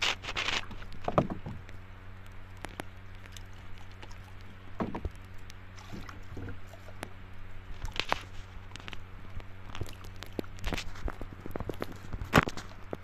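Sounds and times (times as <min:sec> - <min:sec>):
steady low hum: 0:00.0 - 0:13.0
water splashing and dripping: 0:00.1 - 0:12.0.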